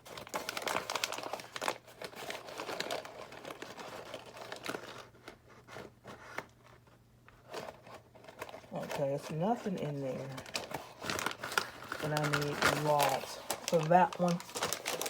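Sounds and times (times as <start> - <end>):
packaging crinkling: 0.0 - 15.0.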